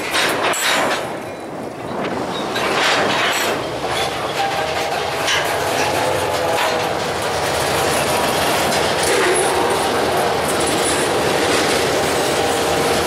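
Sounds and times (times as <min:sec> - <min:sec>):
freight train wheels clacking: 0:00.0 - 0:13.0.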